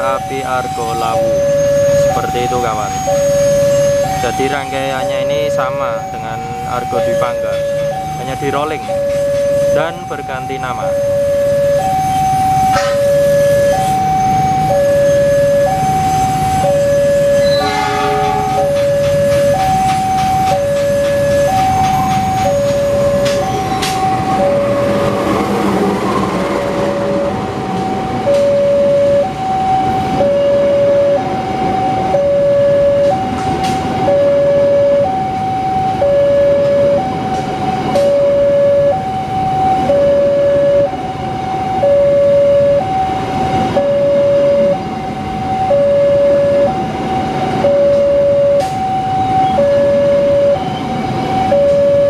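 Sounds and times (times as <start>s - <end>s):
level crossing two-tone alarm: 0.0s - 52.0s
passing train rumble: 0.0s - 52.0s.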